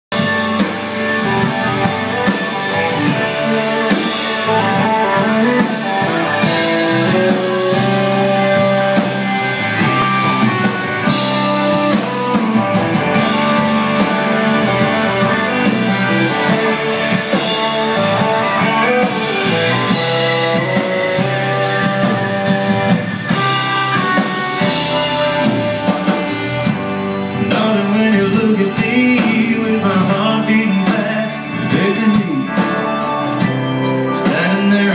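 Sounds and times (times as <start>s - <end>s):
live country band playing: 0.1s - 34.9s.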